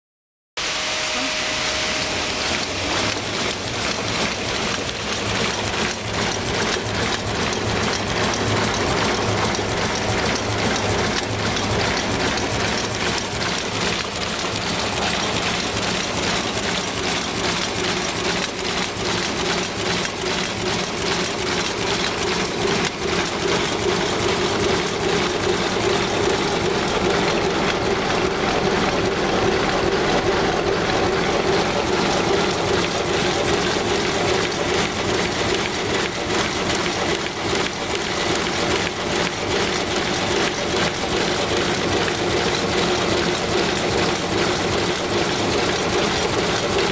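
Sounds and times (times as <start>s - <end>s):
constant machine hum: 0.6s - 46.9s
machine clattering with rapid clicks: 2.0s - 46.9s.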